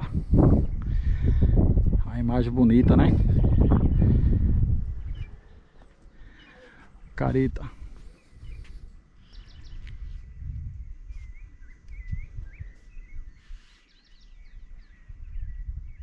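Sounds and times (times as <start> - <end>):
wind on microphone: 0.0 - 6.3, 7.0 - 16.0
small birds chirping: 0.0 - 16.0.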